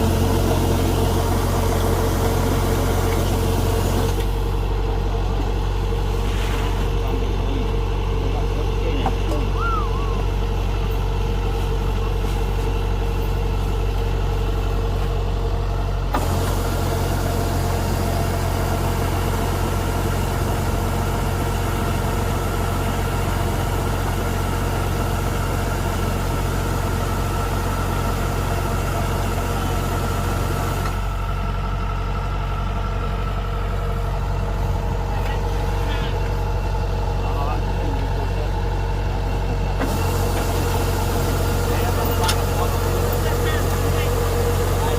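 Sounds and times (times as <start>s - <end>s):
combine harvester engine hum: 0.0s - 44.9s.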